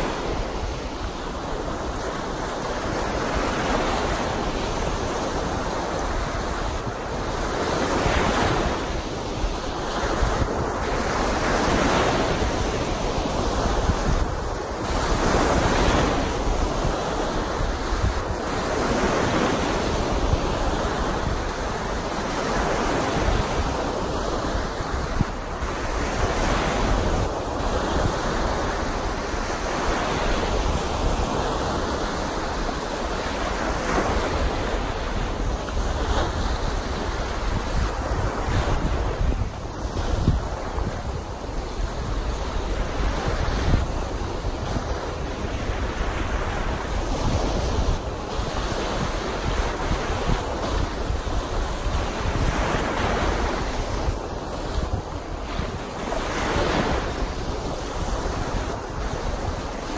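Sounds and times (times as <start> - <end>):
waves breaking on shore: 0.0 - 59.9
wind rumbling on microphone: 0.0 - 59.9.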